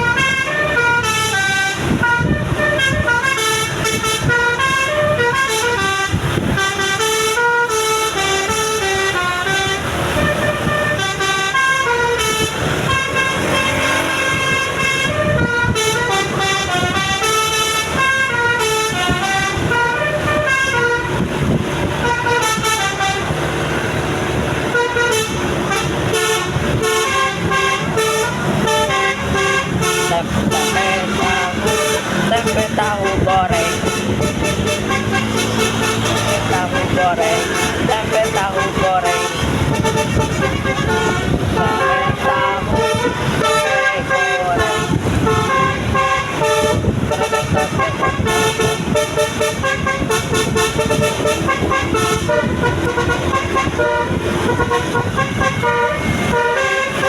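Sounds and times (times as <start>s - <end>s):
bus musical air horn tune: 0.0s - 57.0s.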